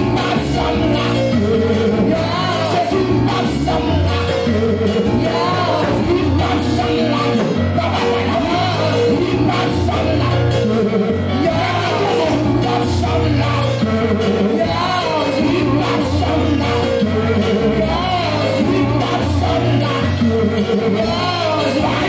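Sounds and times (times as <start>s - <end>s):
bass line: 0.0s - 22.0s
voices singing over a band: 0.0s - 22.0s.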